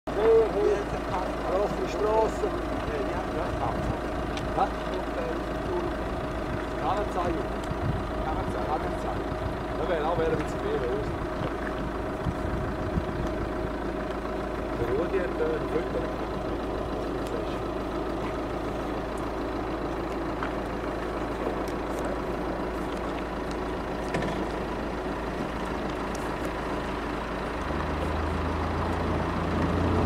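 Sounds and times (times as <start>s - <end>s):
vehicle engine low hum: 0.1s - 30.0s.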